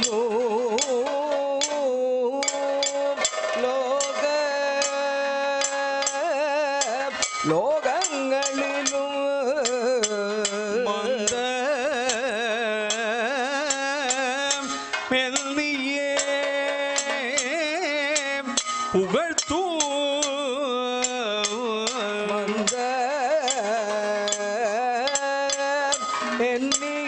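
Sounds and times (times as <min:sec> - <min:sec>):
barrel drum strokes: 0:00.0 - 0:27.0
person singing with vibrato: 0:00.0 - 0:27.0
small metal cymbals: 0:00.0 - 0:27.0.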